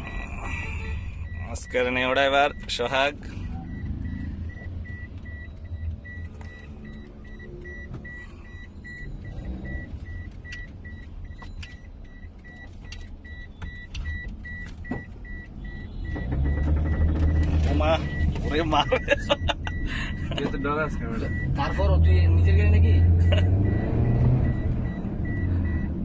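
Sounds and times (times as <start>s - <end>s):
car engine rumble: 0.0s - 26.0s
electronic warning beeps: 0.0s - 26.0s.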